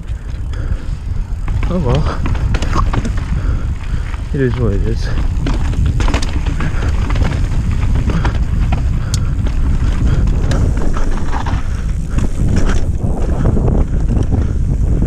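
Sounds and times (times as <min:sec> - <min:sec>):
bike clicks and rattles: 0:00.0 - 0:15.0
mountain bike rumbling on dirt: 0:00.0 - 0:15.0
wind buffeting microphone: 0:00.0 - 0:15.0.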